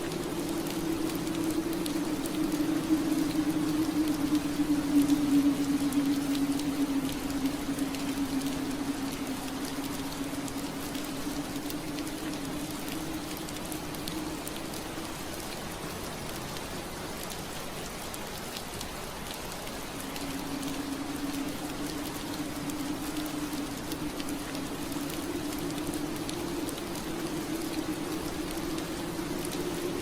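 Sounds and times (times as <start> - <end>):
rain on window glass: 0.0 - 30.0.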